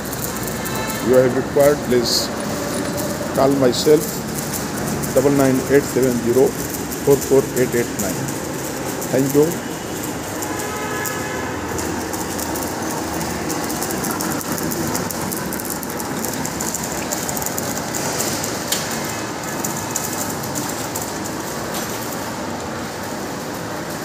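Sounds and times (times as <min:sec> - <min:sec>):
machinery running with clatter: 0:00.0 - 0:24.0.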